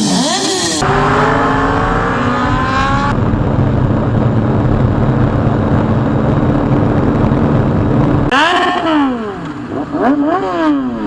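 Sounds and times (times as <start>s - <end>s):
motorcycle engine revving: 0.0s - 11.0s
road and wind noise: 0.0s - 11.0s.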